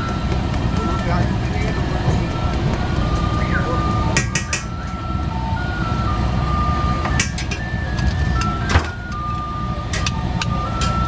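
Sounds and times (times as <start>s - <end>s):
low rumble of street traffic: 0.0s - 11.0s
thin electronic tune: 0.8s - 11.0s.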